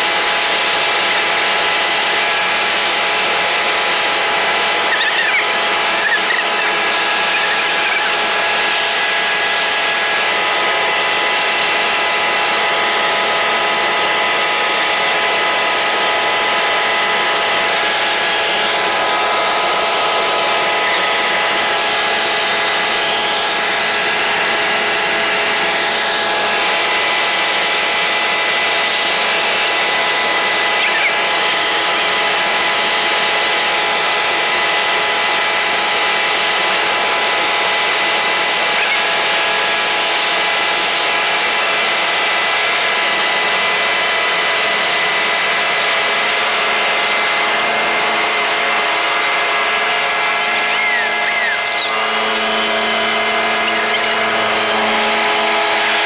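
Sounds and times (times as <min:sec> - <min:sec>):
helicopter engine and rotor whine: 0:00.0 - 0:56.0.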